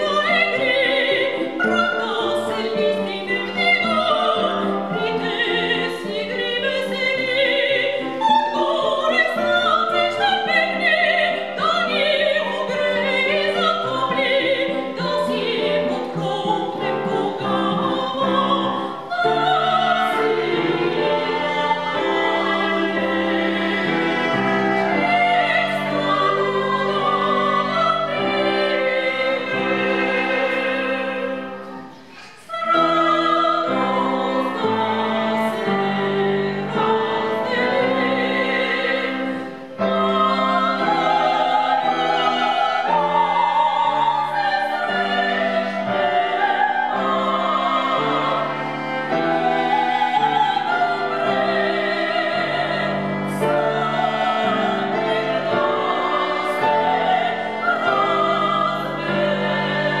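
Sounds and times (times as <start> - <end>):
cello: 0.0 - 60.0
piano: 0.0 - 60.0
sopranos singing classical: 0.0 - 60.0.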